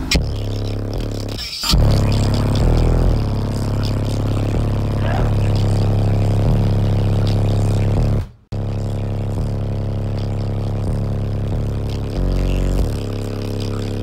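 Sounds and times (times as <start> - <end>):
bass-heavy rap music: 0.0 - 14.0.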